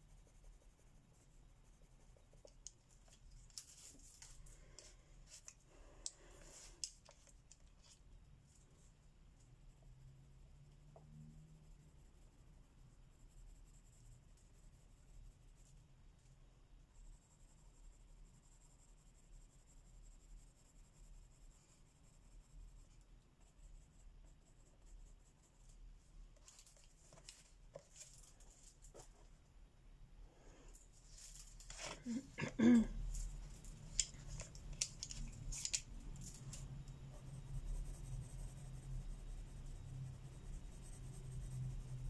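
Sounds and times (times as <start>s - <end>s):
colouring strokes scratching paper: 0.0s - 29.3s, 30.9s - 42.0s.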